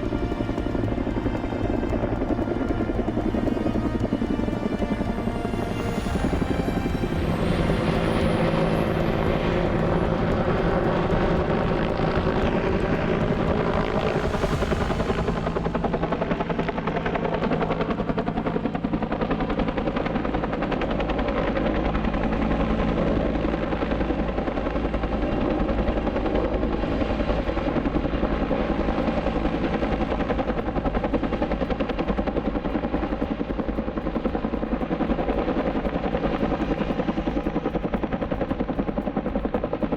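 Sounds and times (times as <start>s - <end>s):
helicopter rotor beating: 0.0s - 39.9s
high turbine whine: 0.0s - 39.9s.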